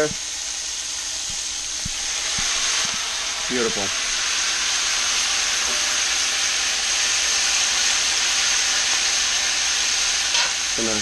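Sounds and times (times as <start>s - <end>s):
beans sizzling in a skillet: 0.0s - 11.0s.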